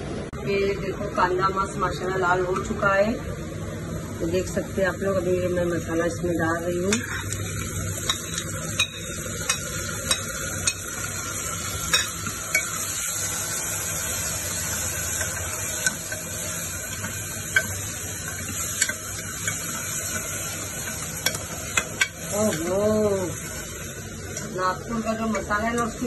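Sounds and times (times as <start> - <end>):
onions sizzling in hot oil: 3.9 - 26.0.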